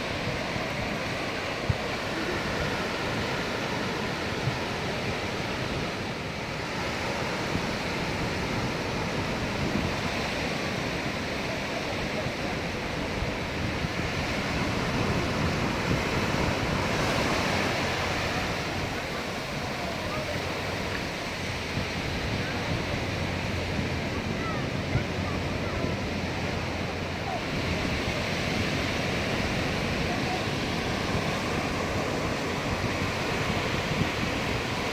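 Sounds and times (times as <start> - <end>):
sea surf washing onto beach: 0.0 - 34.9
wind on microphone: 0.0 - 34.9.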